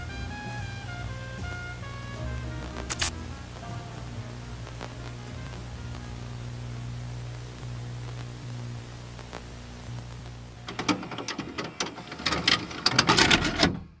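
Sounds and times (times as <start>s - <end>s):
low hum: 0.0s - 13.4s
loud crackling static: 0.0s - 14.0s
tape hiss: 0.0s - 14.0s.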